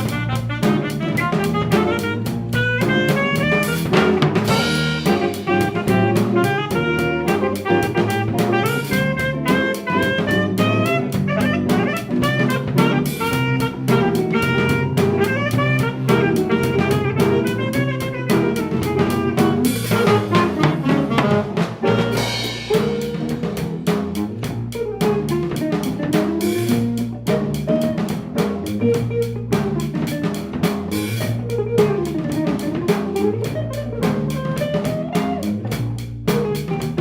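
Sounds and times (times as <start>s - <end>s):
jazz-funk band playing: 0.0s - 37.0s.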